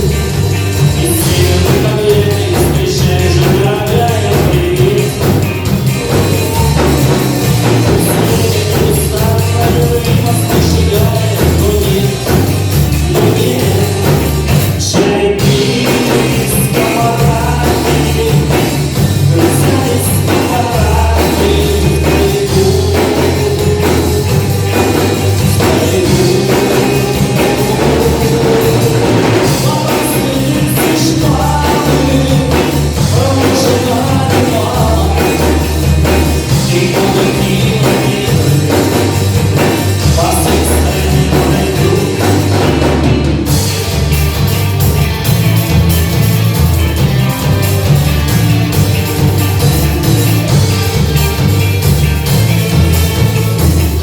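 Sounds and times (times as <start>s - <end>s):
bass line: 0.0s - 54.0s
drum kit: 0.0s - 54.0s
rock band playing live: 0.0s - 54.0s.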